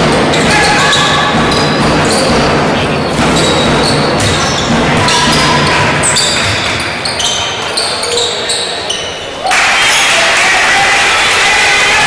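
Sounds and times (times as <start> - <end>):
sneaker squeaks: 0.0 - 10.1.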